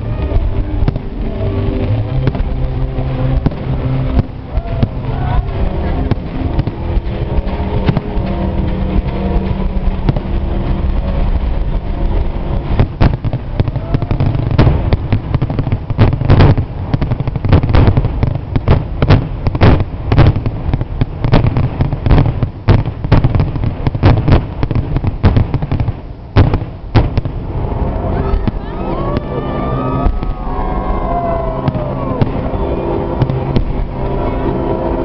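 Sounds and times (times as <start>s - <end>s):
fireworks low rumble: 0.0s - 35.0s
fireworks sharp bangs: 0.0s - 35.0s.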